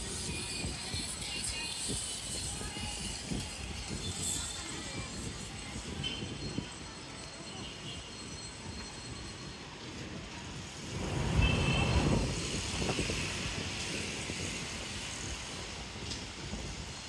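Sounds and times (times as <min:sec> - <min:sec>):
low traffic rumble: 0:02.3 - 0:17.0.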